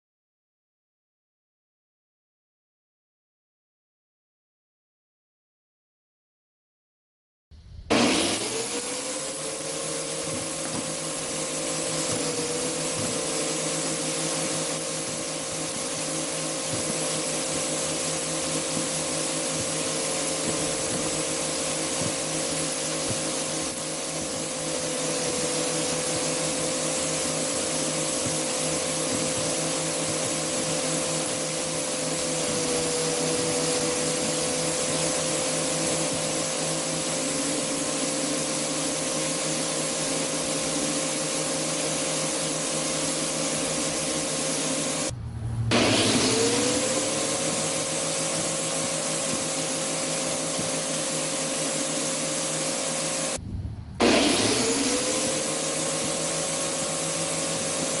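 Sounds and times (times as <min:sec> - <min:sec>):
angle grinder motor whine: 0:07.9 - 0:53.4, 0:54.0 - 0:58.0.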